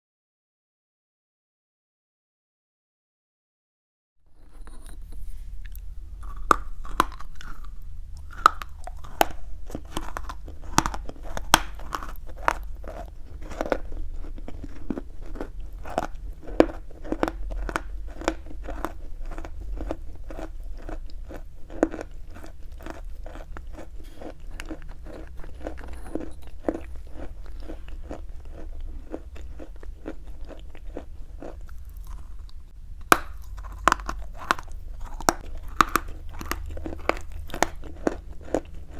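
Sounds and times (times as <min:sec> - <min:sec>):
chewing chalk crunches: 0:04.4 - 0:38.9.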